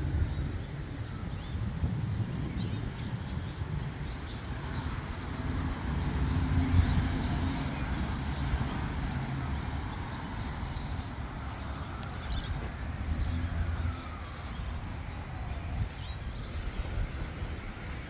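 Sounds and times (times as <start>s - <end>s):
car passing: 0.0s - 18.0s.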